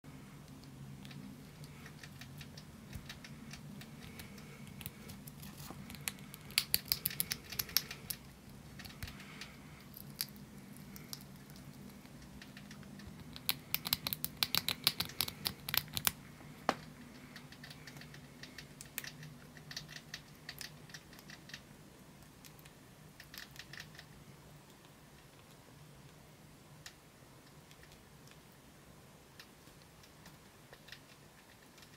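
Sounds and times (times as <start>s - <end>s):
faint steady hum: 0.0s - 31.9s
rodent gnawing crunchy treat: 0.4s - 26.2s, 29.4s - 31.9s.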